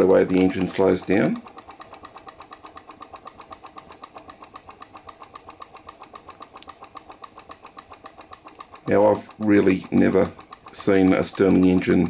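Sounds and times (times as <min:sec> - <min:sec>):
small engine pulsing: 0:00.0 - 0:12.0.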